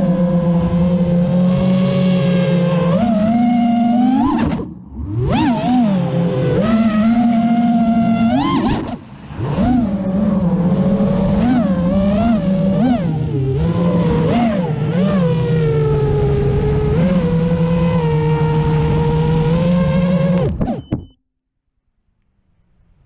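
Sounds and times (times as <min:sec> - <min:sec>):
quadcopter motors humming: 0:00.0 - 0:21.1.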